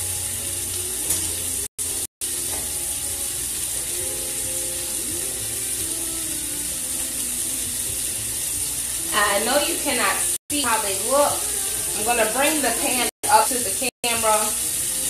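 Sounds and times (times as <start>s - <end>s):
faint music: 0.0s - 15.0s
meat sizzling in a pan: 0.0s - 15.0s.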